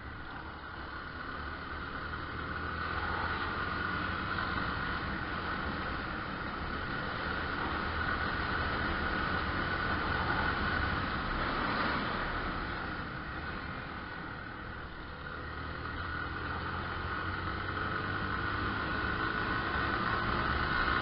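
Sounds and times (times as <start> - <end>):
motorcycle engine: 0.0 - 21.0.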